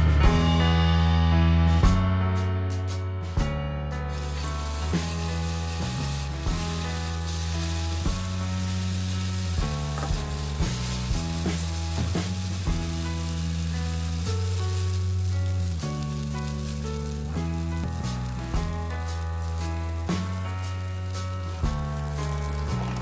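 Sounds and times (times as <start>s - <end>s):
background music: 0.0s - 23.0s
batter sizzling in oil: 4.1s - 23.0s
spatula spreading in pan: 4.1s - 23.0s.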